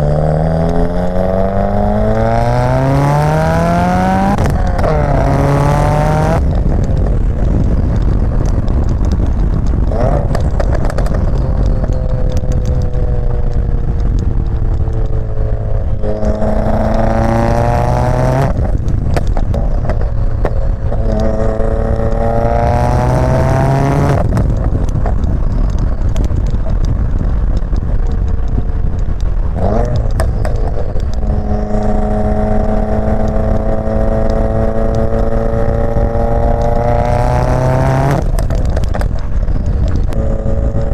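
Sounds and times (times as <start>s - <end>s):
turbocharged car engine revving: 0.0s - 25.0s, 29.4s - 40.9s
exhaust pops and crackles: 0.0s - 40.9s.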